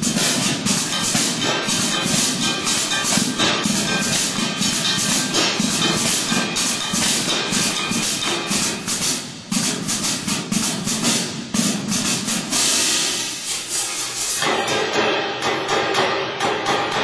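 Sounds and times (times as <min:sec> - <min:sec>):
marching crash cymbals: 0:00.0 - 0:17.0.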